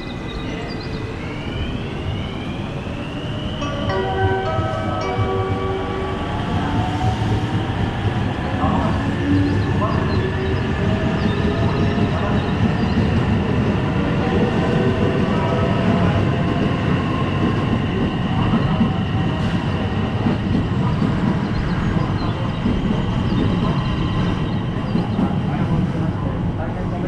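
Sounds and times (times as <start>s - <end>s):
electric train running noise: 0.0s - 27.0s.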